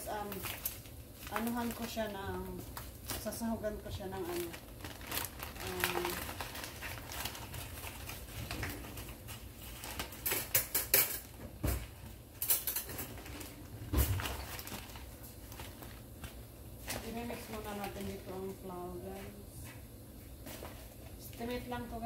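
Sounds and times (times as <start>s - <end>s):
plastic bag rustling and crinkling: 0.0s - 19.2s.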